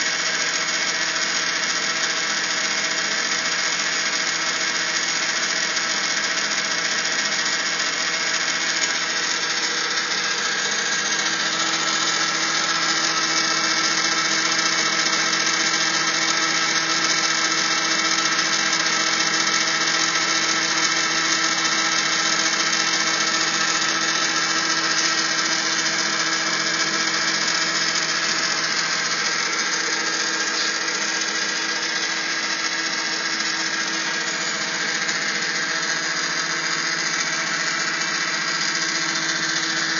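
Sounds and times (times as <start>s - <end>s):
electric motor pump humming: 0.0s - 39.9s.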